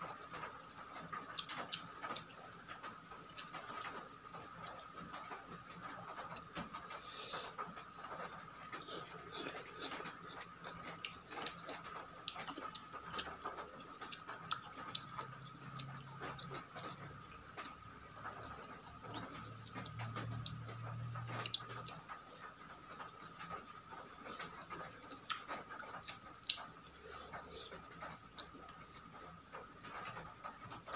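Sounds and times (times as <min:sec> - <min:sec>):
chewing and wet mouth clicks: 0:01.0 - 0:30.2.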